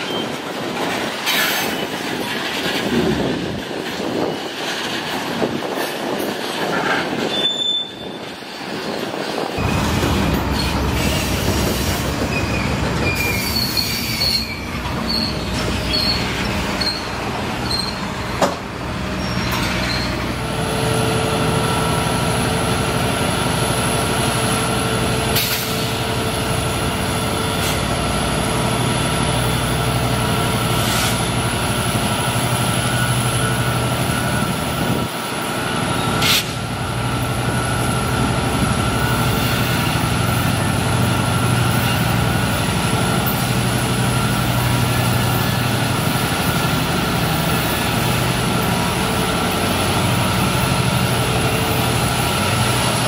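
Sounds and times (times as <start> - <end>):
locomotive diesel engine drone: 9.6 - 53.0.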